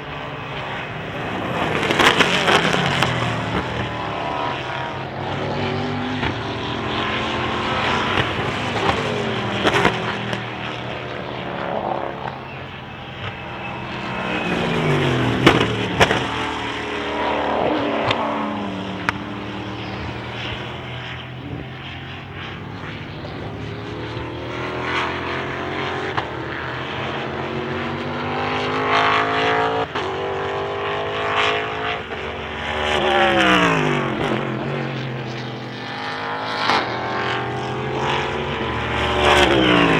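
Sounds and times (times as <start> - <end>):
race cars passing at high revs: 0.0 - 39.9.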